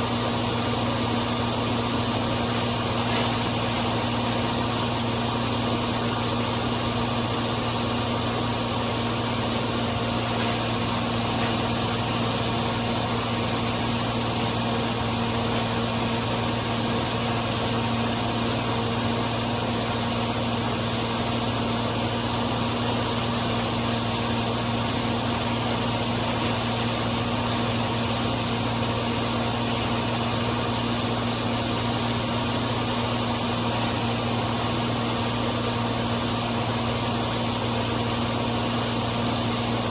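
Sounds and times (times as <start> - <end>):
hammer mill rushing noise: 0.0 - 37.6
tractor diesel engine droning: 0.0 - 39.9.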